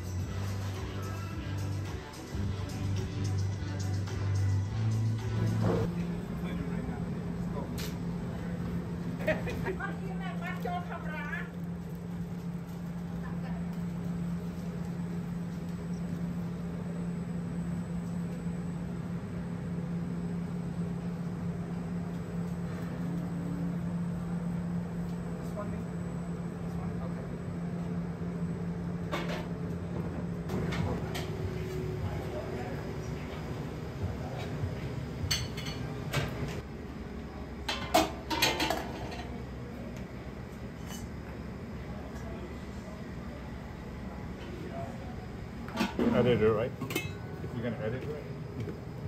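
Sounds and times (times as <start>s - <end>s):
kitchen equipment hum: 0.0s - 49.0s.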